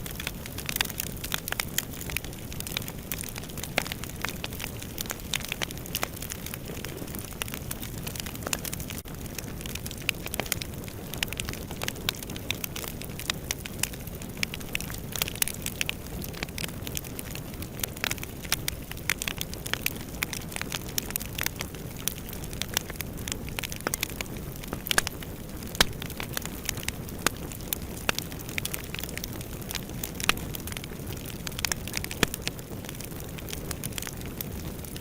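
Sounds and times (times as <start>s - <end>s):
fire crackling in fireplace: 0.0s - 35.0s.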